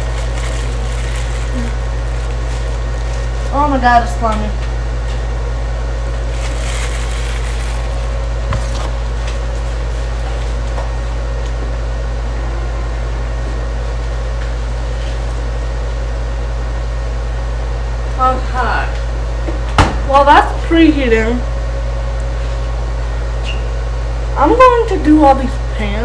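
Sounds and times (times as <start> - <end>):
appliance fan humming: 0.0 - 26.0.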